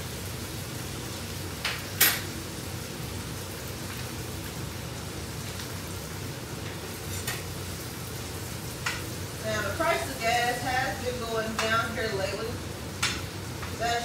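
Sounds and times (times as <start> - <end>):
steak sizzling in a pan: 0.0 - 14.0.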